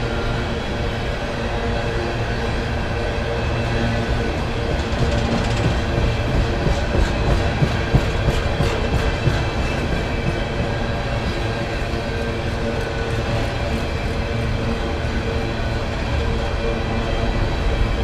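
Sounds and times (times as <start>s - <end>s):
rail cars rumbling: 0.0s - 18.0s.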